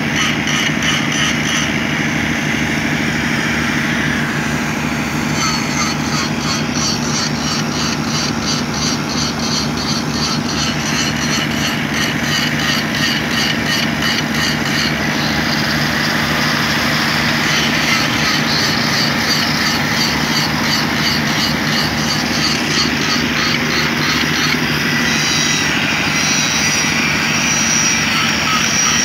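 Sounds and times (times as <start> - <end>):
engine humming: 0.0 - 29.0
fast high rhythmic ticking: 5.3 - 29.0.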